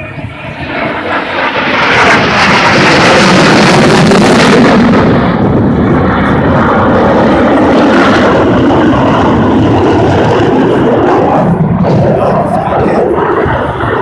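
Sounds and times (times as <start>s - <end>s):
jet passing overhead: 0.0s - 14.0s.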